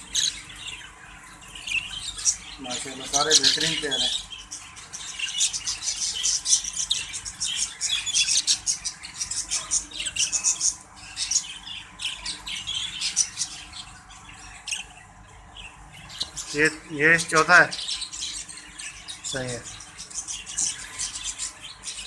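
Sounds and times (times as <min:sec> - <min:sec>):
budgerigars squawking and chattering: 0:00.0 - 0:22.0.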